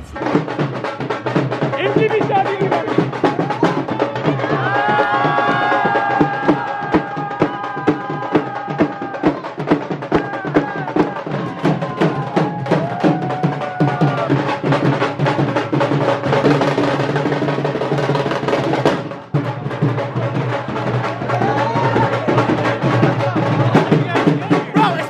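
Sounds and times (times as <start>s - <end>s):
dhol drums beating fast: 0.0s - 25.0s.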